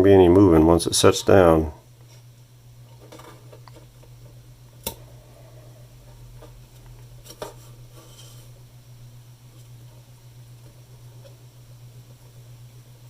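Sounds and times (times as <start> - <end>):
low hum: 1.6 - 13.0.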